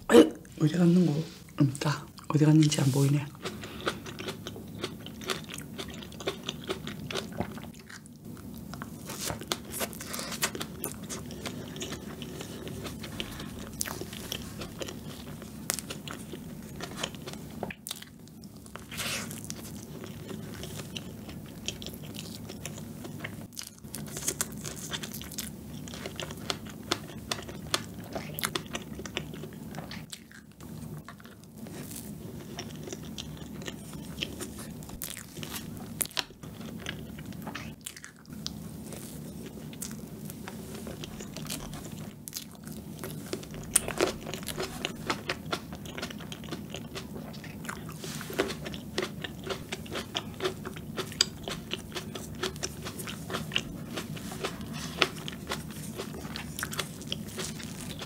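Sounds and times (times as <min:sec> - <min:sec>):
chewing and mouth sounds: 0:02.1 - 0:58.0.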